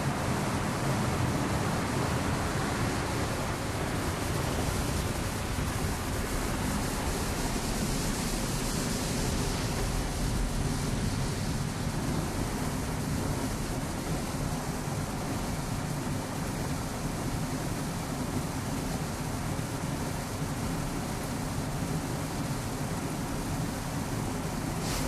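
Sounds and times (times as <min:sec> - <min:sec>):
spraying water rushing: 0:00.0 - 0:25.0.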